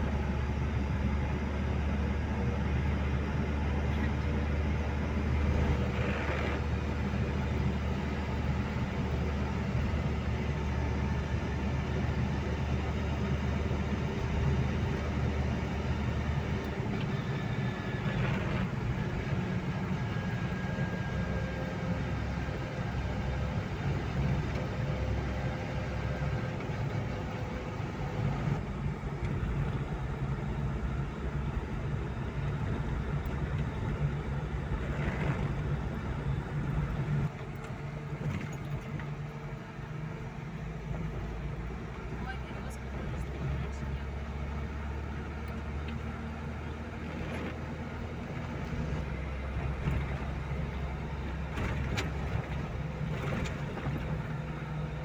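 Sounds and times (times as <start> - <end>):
car engine drone inside cabin: 0.0 - 55.0.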